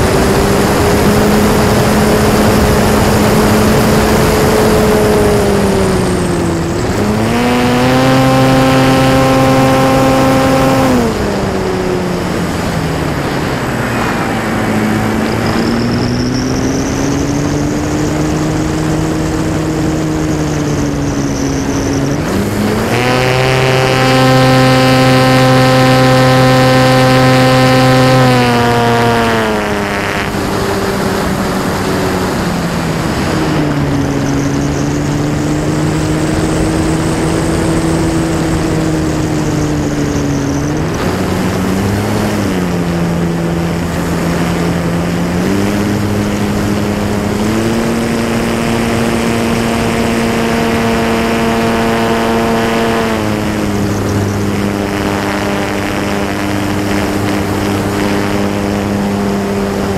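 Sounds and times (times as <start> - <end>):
electric motor and propeller drone: 0.0 - 59.9
rushing wind noise: 0.0 - 59.9.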